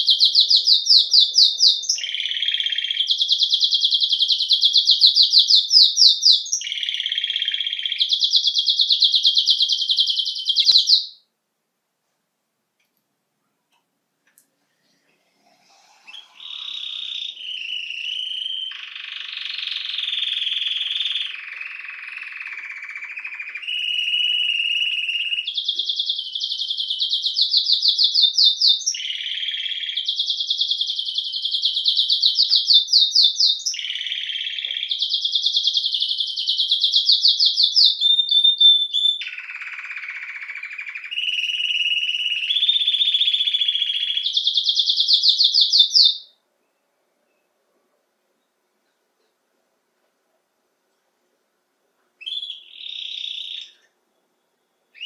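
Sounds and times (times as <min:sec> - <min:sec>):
canary singing: 0:00.0 - 0:11.3, 0:15.4 - 0:47.6, 0:52.2 - 0:55.0.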